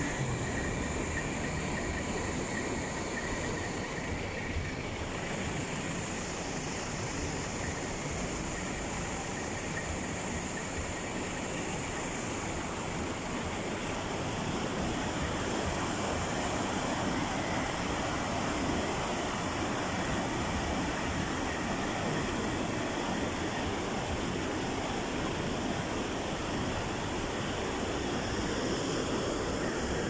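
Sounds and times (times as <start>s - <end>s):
creek rushing in flood: 0.0s - 30.0s.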